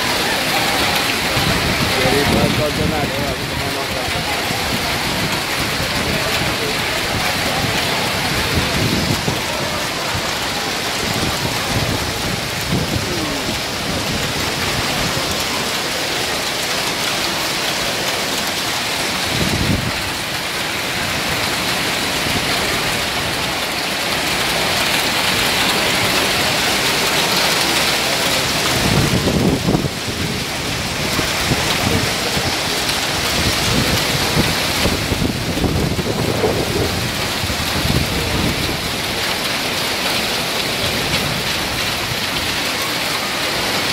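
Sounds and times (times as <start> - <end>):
hail and heavy rain pelting: 0.0 - 43.9.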